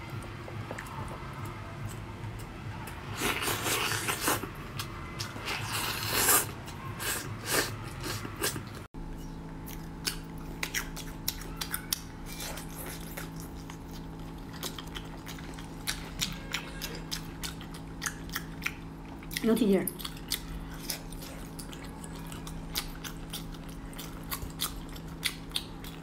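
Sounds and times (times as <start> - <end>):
soft sticky chewing: 0.0 - 26.0
steady low hum: 0.0 - 26.0.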